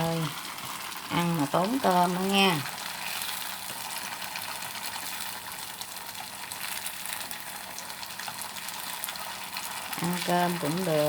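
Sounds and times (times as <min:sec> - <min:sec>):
frying in hot oil sizzle: 0:00.0 - 0:11.0.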